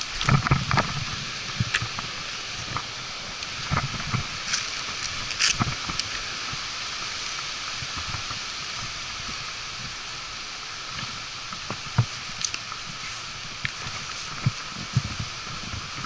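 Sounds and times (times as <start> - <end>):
microphone hiss: 0.0 - 16.0.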